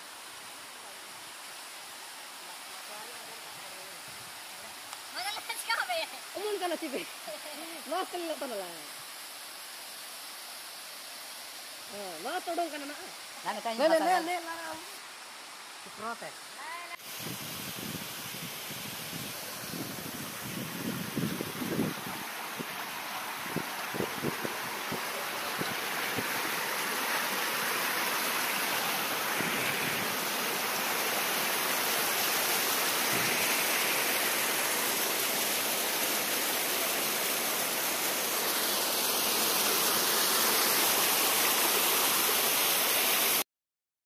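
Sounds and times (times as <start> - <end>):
waterfall rushing over rocks: 0.0 - 43.4.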